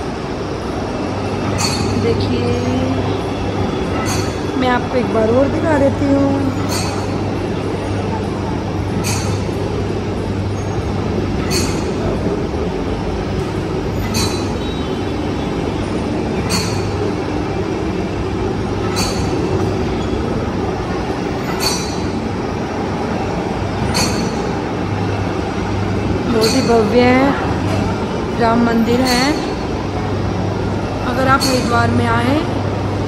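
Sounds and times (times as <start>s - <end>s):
mechanical drone with low hum: 0.0s - 33.0s.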